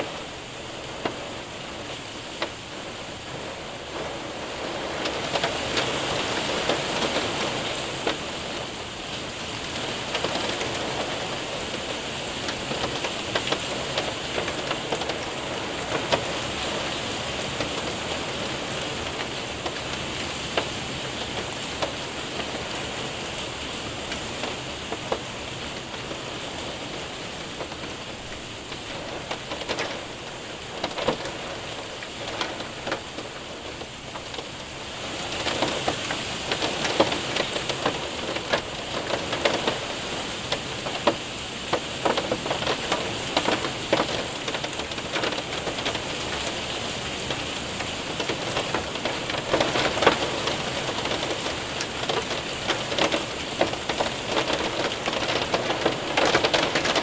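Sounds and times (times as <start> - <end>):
hail ticking on window and roof: 0.0 - 57.0
rain rushing: 0.0 - 57.0.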